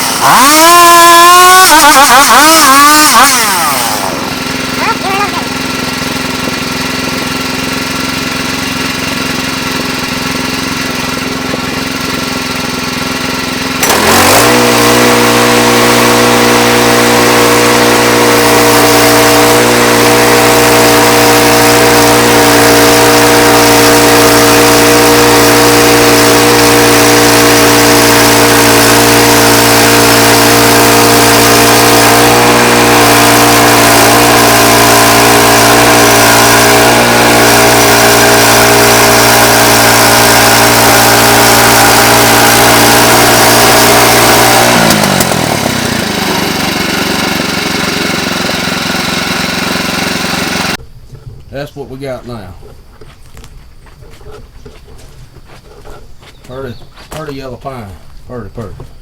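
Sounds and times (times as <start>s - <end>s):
saw cutting through log: 0.0s - 50.8s
sawmill engine running: 0.0s - 50.8s.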